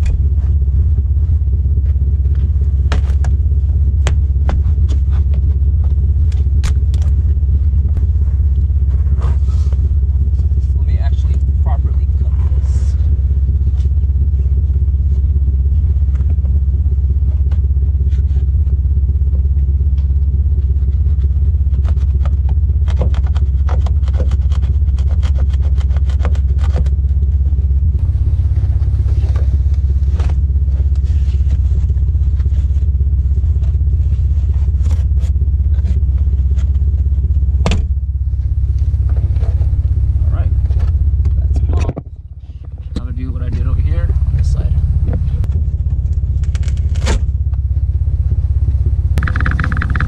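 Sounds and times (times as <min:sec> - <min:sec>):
loud low rumble: 0:00.0 - 0:23.4, 0:26.4 - 0:50.0.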